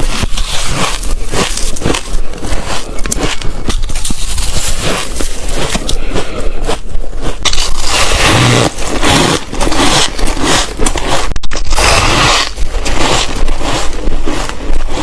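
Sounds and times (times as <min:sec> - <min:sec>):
ice crunched between teeth: 0:00.0 - 0:15.0.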